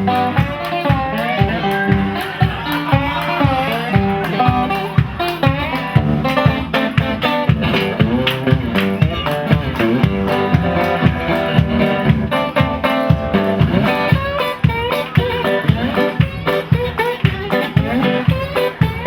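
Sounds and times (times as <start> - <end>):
guitar bending notes: 0.0 - 19.0
live band playing: 0.0 - 19.0
steady drum beat: 0.0 - 19.0.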